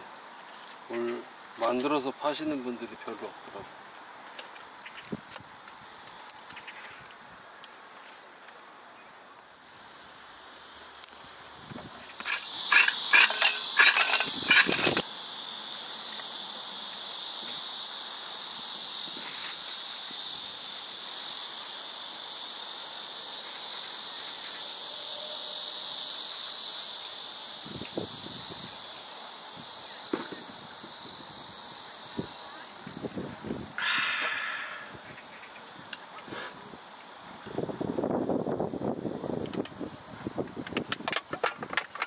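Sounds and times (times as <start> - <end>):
cicadas calling: 0.0 - 42.0.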